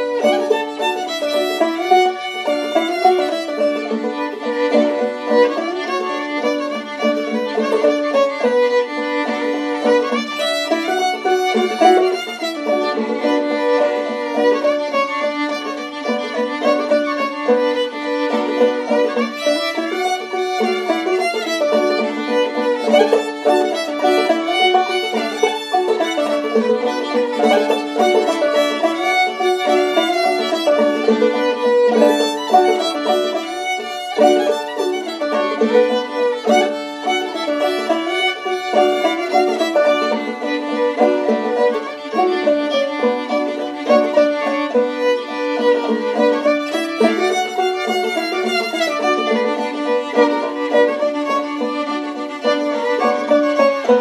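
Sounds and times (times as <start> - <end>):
banjo playing: 0.0 - 54.0
fiddle playing melody: 0.0 - 54.0.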